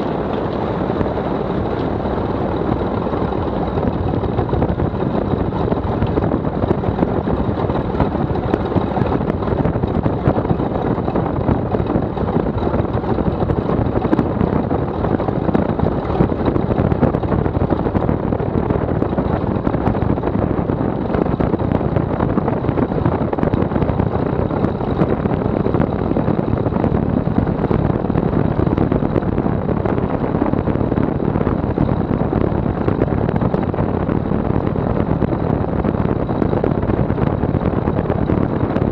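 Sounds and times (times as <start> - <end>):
plane engine and propeller: 0.0 - 38.9.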